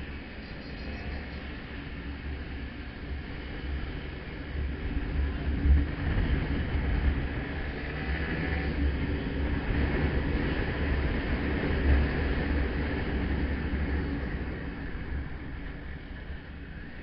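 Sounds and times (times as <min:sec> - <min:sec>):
road noise: 0:00.0 - 0:17.0
wind buffeting microphone: 0:01.1 - 0:17.0.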